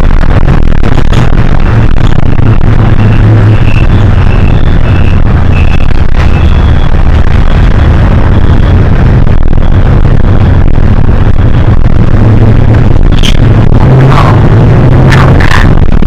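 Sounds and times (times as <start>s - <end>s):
bus engine drone: 0.0s - 16.0s
road and cabin noise: 0.0s - 16.0s.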